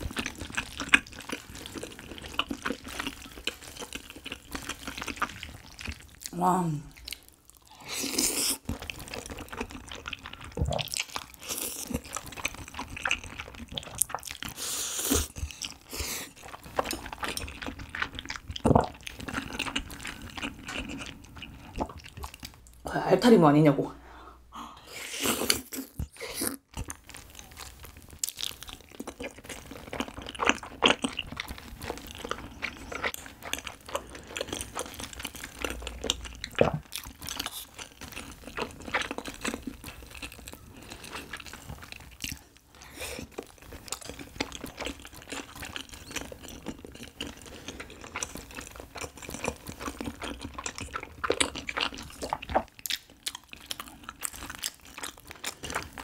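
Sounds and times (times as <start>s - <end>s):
chewing and biting rice cakes: 0.0s - 22.8s, 25.2s - 56.0s.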